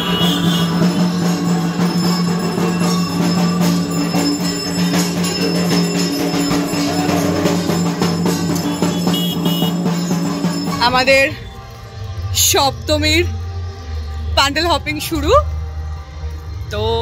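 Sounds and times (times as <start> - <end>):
jingling percussion: 0.0 - 17.0.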